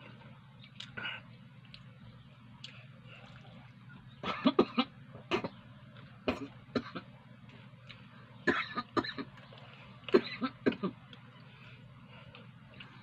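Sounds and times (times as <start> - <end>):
man chewing food: 0.0 - 8.2, 8.8 - 13.0.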